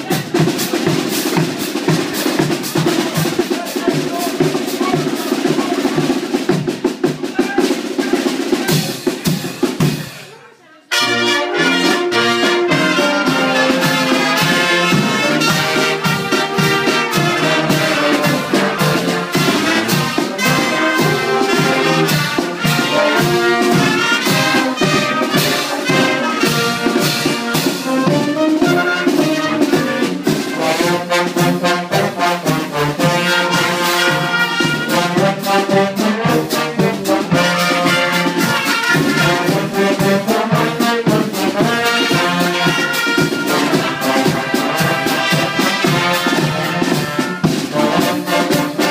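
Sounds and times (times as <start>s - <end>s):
brass band playing: 0.0s - 48.9s.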